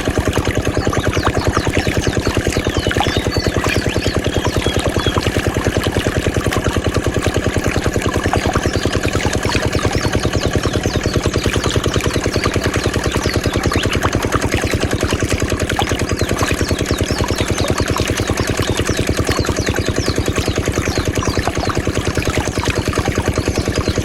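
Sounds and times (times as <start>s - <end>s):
small diesel engine chugging: 0.0s - 24.0s.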